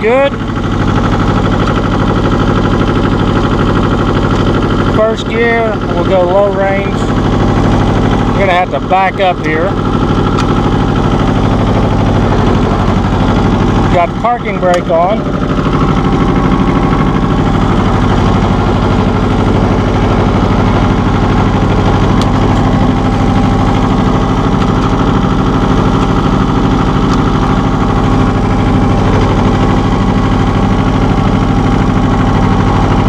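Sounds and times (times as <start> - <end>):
tractor diesel engine idling: 0.0 - 33.0.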